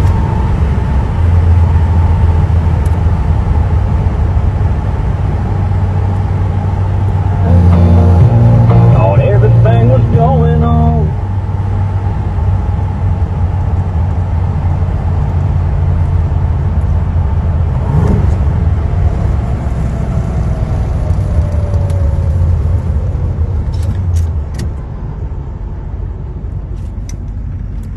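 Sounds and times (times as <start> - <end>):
car engine droning: 0.0 - 27.9
wind and road noise: 0.0 - 27.9.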